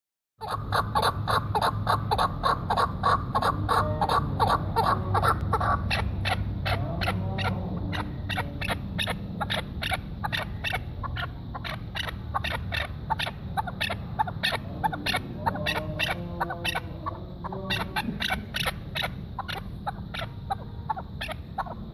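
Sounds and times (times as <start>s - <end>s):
partridge calling chuk notes: 0.4s - 21.9s.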